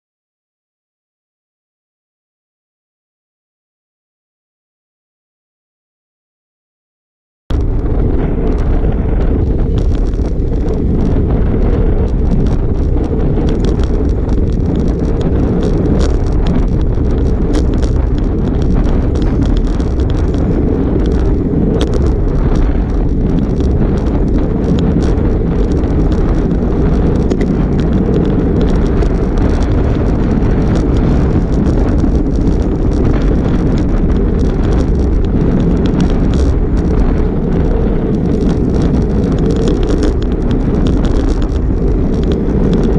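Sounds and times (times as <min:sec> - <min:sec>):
faint clicks from road vibration: 0:07.5 - 0:42.9
wind buffeting microphone: 0:07.5 - 0:42.9.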